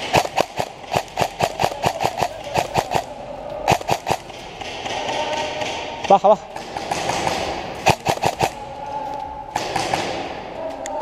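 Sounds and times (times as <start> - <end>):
airsoft guns firing: 0.0 - 8.7, 9.5 - 10.6.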